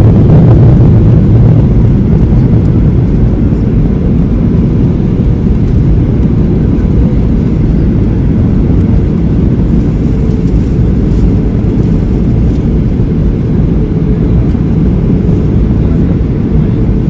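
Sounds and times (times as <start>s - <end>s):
airplane cabin engine rumble: 0.0s - 17.0s
faint steady hum: 0.0s - 17.0s.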